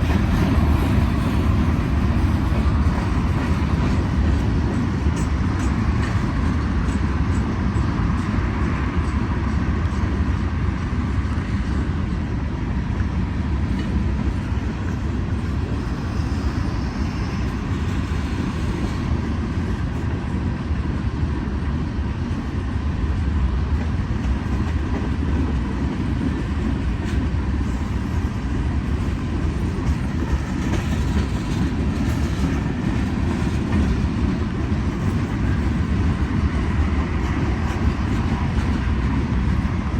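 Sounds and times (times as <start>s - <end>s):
freight train rolling on rails: 0.0s - 39.9s.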